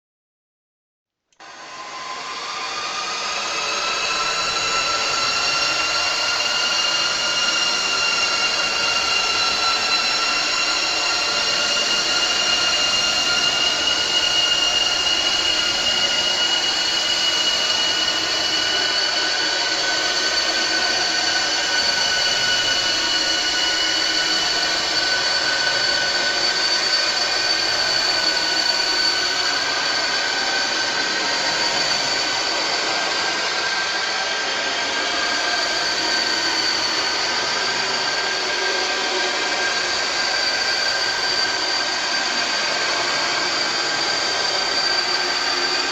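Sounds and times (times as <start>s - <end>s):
high whining tones: 1.4s - 45.9s.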